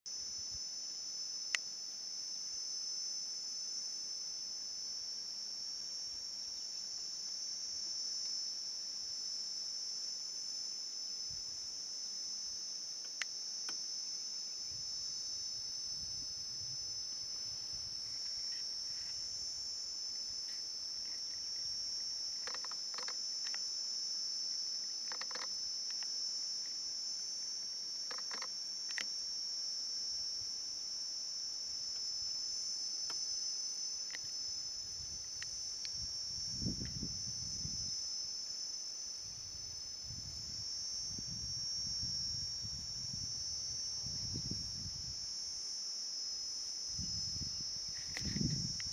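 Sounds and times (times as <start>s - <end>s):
insect chorus drone: 0.1s - 48.9s.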